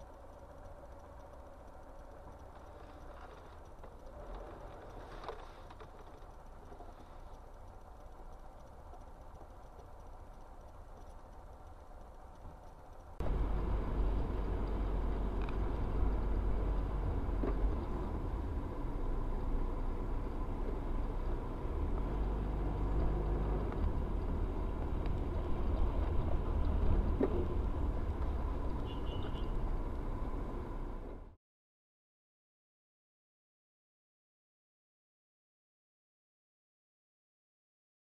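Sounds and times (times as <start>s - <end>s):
car road and engine rumble: 0.0s - 31.4s.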